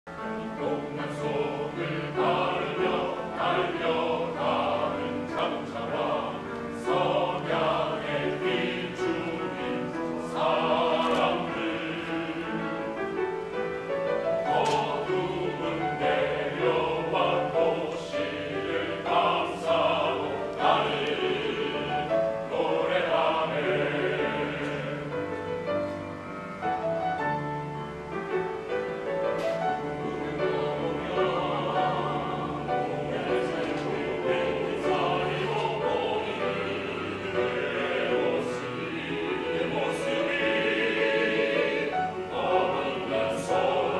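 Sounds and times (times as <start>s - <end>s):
mixed choir singing: 0.1s - 26.1s, 29.4s - 43.9s
grand piano: 0.1s - 43.9s.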